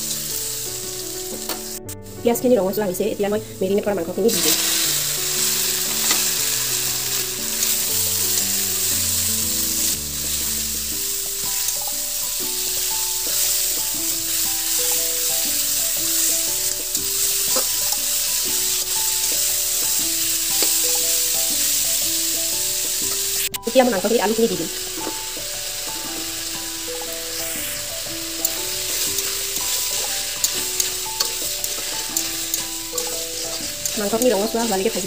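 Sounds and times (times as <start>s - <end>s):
meat sizzling in hot oil: 0.0s - 35.0s.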